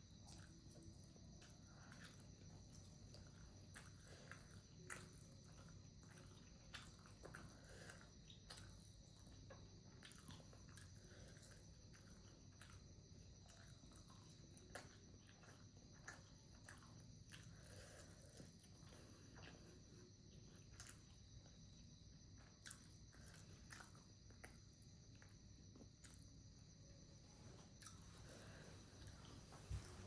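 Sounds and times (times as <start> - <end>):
low steady hum: 0.0 - 30.0
person chewing: 0.2 - 26.8, 27.6 - 30.0.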